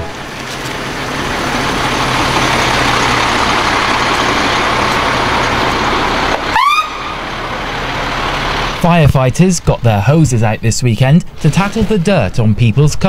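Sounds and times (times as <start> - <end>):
vehicle engine idling: 0.0 - 11.4.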